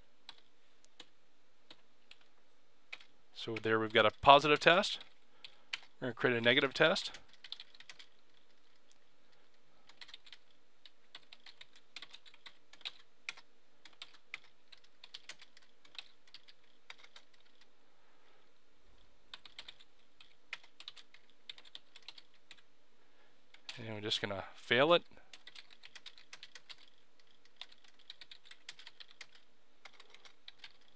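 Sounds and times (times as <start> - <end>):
computer keyboard typing: 0.2 - 1.1, 1.7 - 2.3, 2.9 - 17.7, 19.3 - 22.7, 23.5 - 23.8, 25.3 - 30.9.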